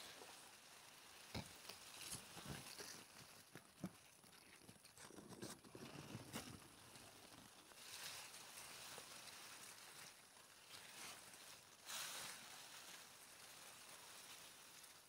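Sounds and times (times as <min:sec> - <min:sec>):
leaves rustling: 0:00.0 - 0:15.0
soft clicks and crackles: 0:00.0 - 0:15.0.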